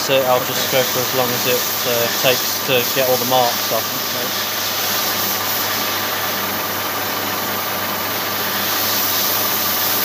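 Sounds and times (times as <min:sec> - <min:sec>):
abrasive strip hissing: 0:00.0 - 0:06.4, 0:08.4 - 0:10.0.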